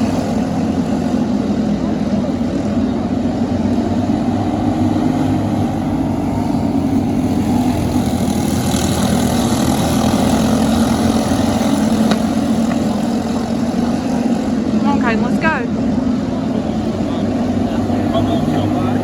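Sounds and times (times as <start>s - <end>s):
kart engines running: 0.0s - 19.0s.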